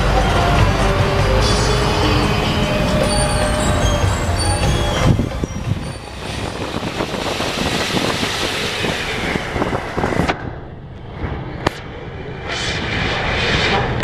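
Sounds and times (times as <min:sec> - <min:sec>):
bus engine drone: 0:00.0 - 0:14.0
road and wind noise: 0:00.0 - 0:14.0.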